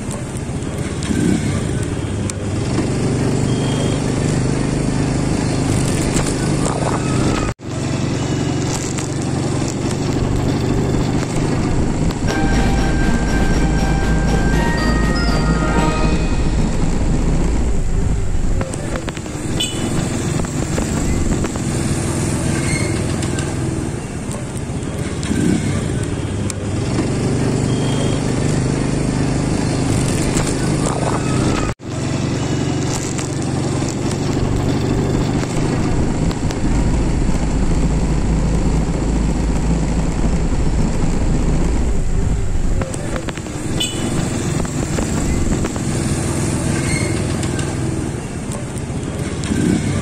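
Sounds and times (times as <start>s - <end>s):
motorcycles passing: 0.0s - 50.0s
street traffic: 0.0s - 50.0s.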